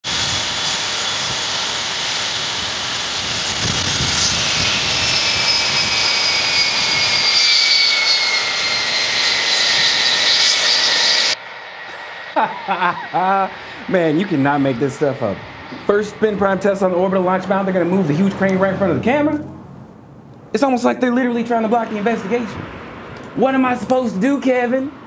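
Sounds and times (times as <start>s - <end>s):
turbine engine rushing: 0.0s - 25.0s
high whines falling in pitch: 0.1s - 24.9s.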